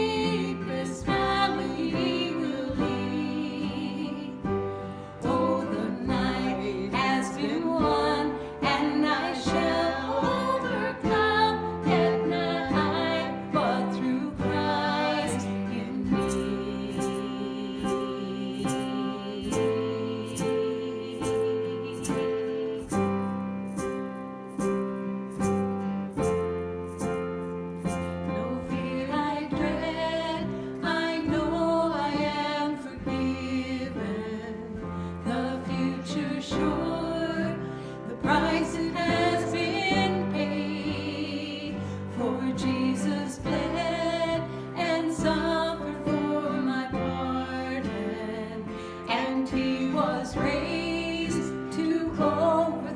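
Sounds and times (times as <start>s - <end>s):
person singing: 0.0s - 23.8s, 27.8s - 52.9s
keyboard: 0.0s - 52.9s.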